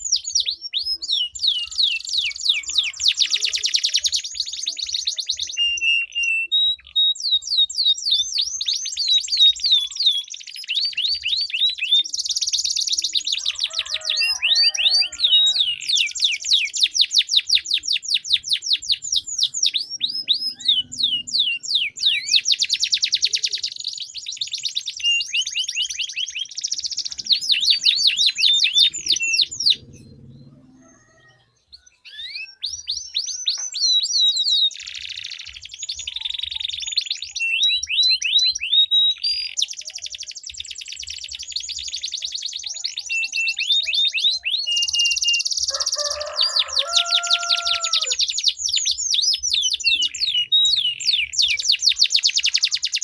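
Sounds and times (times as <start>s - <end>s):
canaries singing trills: 0.0s - 53.0s.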